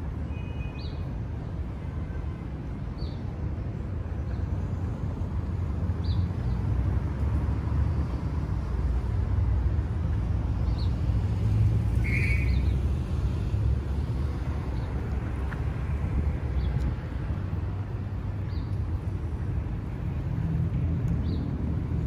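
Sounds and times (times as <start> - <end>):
low city rumble: 0.0 - 22.0.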